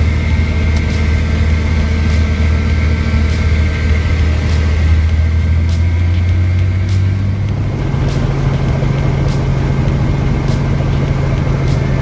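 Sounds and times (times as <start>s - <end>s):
helicopter high whine: 0.0s - 12.0s
helicopter low drone: 0.0s - 12.0s.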